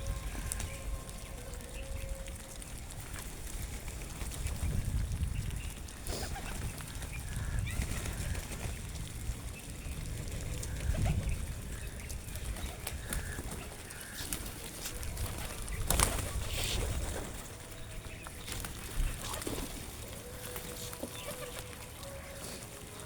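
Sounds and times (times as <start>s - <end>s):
pigeon calls: 0.0s - 23.0s
pigeons pecking and shuffling: 0.0s - 23.0s
wings flapping: 0.0s - 23.0s.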